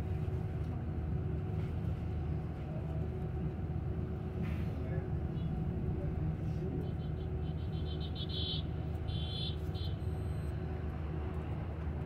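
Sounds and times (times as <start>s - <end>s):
low rumble of bus road noise: 0.0s - 12.0s.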